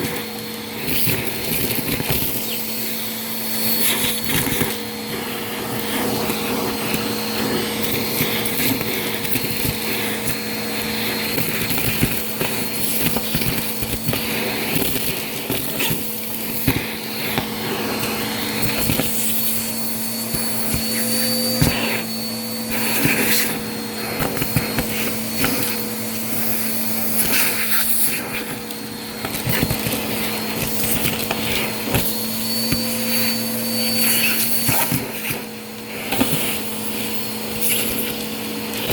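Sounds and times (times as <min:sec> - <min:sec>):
debris crackling in vacuum: 0:00.0 - 0:38.9
vacuum cleaner running: 0:00.0 - 0:38.9.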